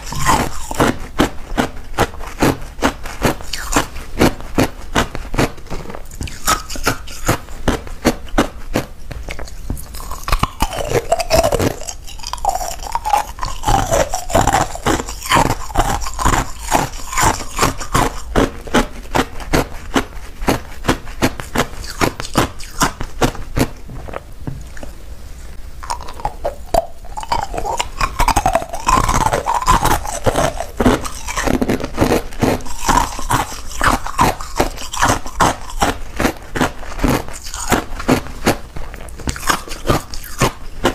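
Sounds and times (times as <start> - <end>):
ice cubes crunched by teeth: 0.0 - 7.8, 8.4 - 19.6, 25.8 - 40.9.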